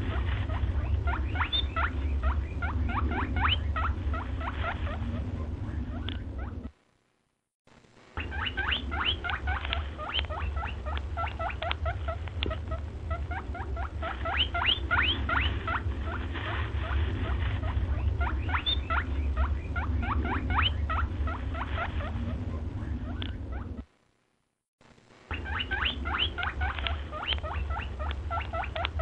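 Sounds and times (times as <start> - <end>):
small animal squeaks: 0.0 - 6.7, 8.2 - 23.8, 25.3 - 29.0
steady low hum: 0.0 - 29.0.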